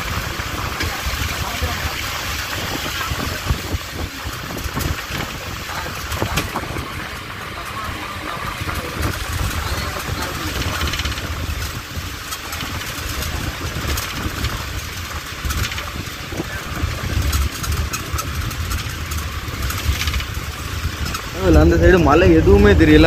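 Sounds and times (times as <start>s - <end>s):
bus engine rumble and road noise: 0.0s - 23.0s
light clicks and rattles: 3.0s - 22.2s.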